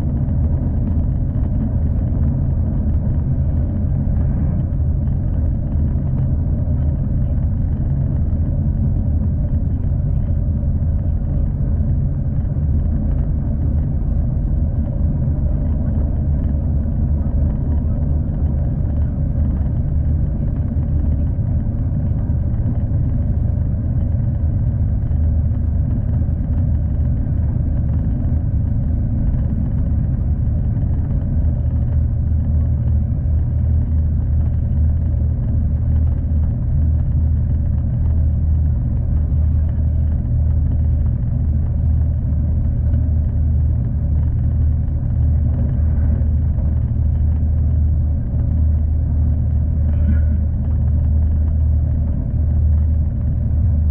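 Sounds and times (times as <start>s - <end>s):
train rumbling on the line: 0.0s - 53.9s.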